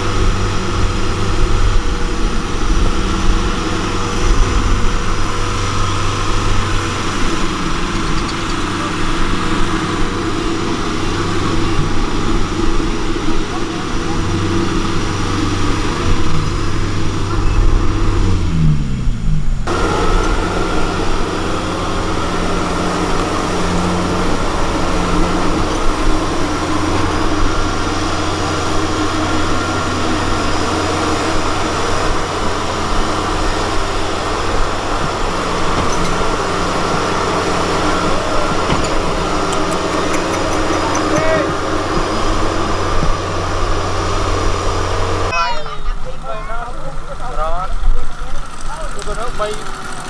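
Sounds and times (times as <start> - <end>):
diesel engine running under load: 0.0 - 50.0.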